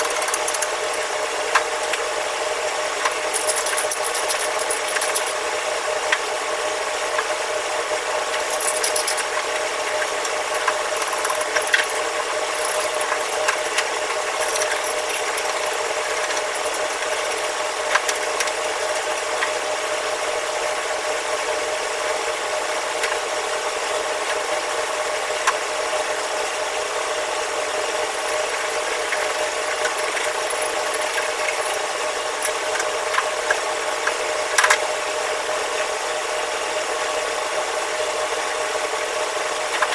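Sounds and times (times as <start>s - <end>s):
wok range and exhaust hood: 0.0s - 39.9s.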